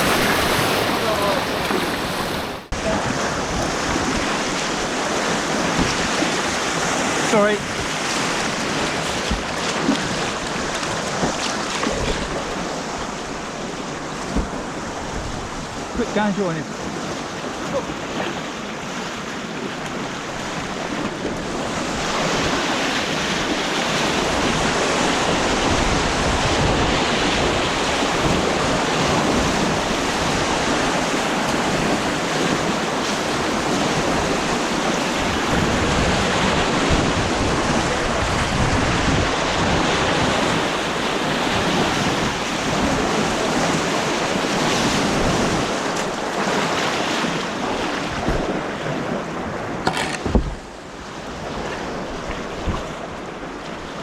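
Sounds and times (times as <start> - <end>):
wind buffeting on microphone: 0.0 - 16.0, 16.6 - 54.0
rushing white water: 0.0 - 54.0.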